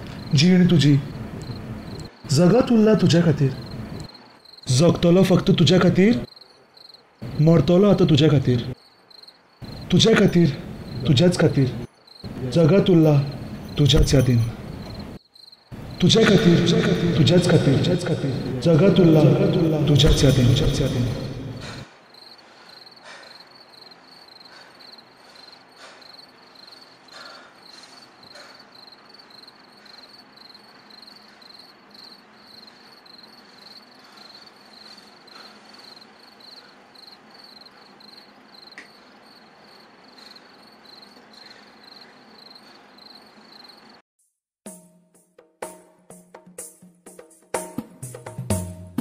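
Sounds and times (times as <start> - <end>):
cricket chirping: 0.0 - 44.0.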